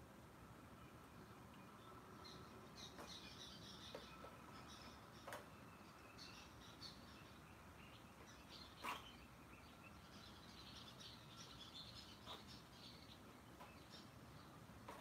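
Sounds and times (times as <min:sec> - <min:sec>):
faint bird chirps: 0:00.7 - 0:15.0.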